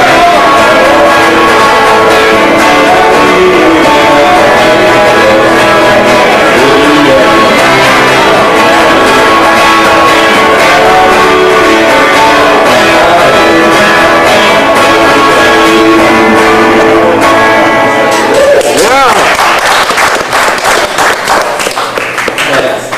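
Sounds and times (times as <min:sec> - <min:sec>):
strummed guitar chords: 0:00.0 - 0:19.1
live band playing: 0:00.0 - 0:19.2.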